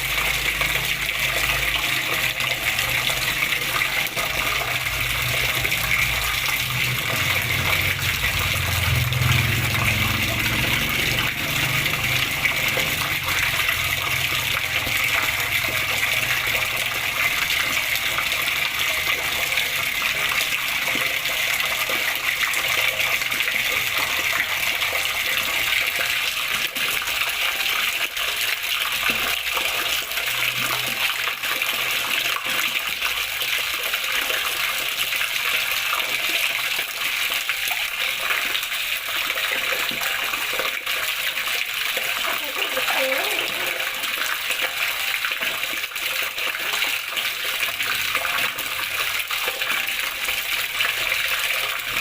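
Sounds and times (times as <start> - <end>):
flowing water splashing: 0.0 - 52.0.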